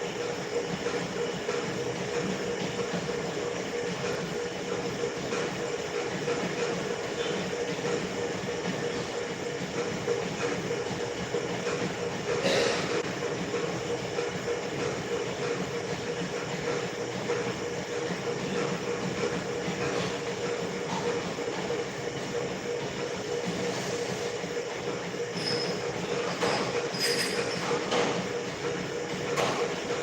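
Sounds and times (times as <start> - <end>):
train running noise: 0.0 - 30.0.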